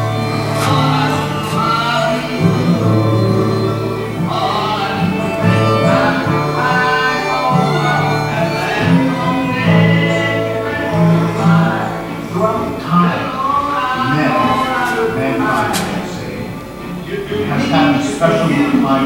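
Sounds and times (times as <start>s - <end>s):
fiddle: 0.0s - 19.0s
guitar: 0.0s - 19.0s
person singing: 0.0s - 19.0s.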